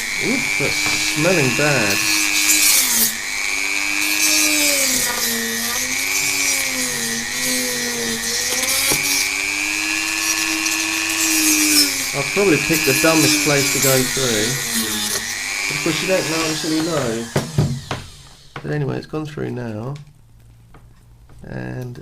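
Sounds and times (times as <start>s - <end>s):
rotary tool cutting: 0.0s - 18.7s.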